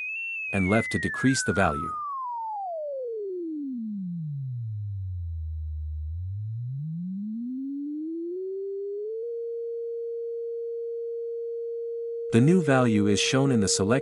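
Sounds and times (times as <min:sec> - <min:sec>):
sine-wave tone gliding in pitch: 0:00.0 - 0:14.0.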